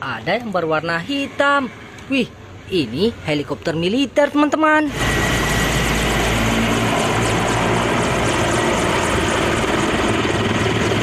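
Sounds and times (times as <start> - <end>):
helicopter rotor and turbine noise: 0.0 - 11.0.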